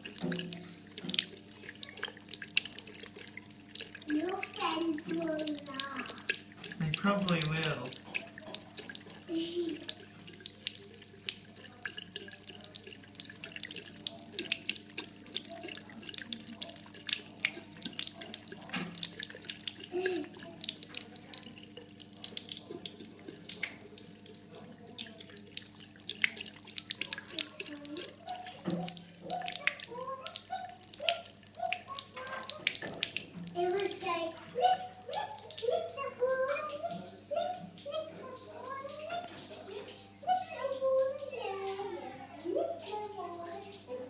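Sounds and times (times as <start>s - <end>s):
cat lapping water: 0.0s - 44.0s
tap water running into sink: 0.0s - 44.0s.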